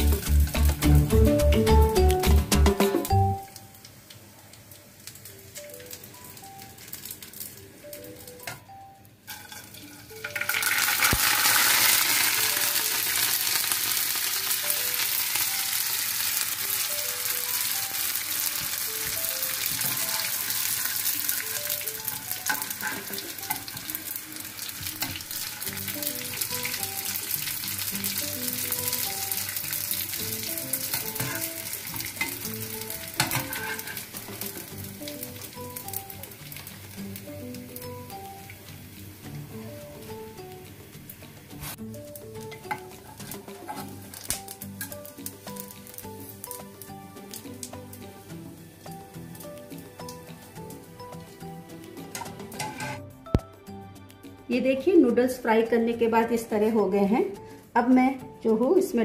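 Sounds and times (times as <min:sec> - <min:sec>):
noodles sizzling in hot oil: 0:03.4 - 0:08.6, 0:09.2 - 0:53.0.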